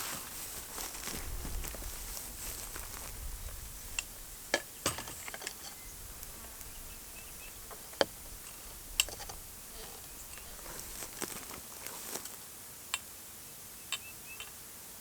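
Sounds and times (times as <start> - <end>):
insects buzzing: 0.0 - 12.6.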